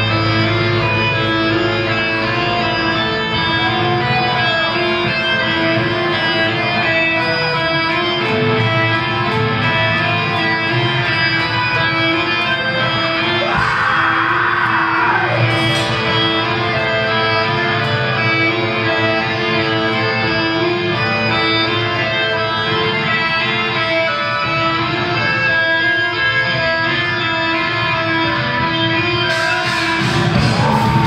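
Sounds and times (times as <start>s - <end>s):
metal band playing live: 0.0s - 31.0s.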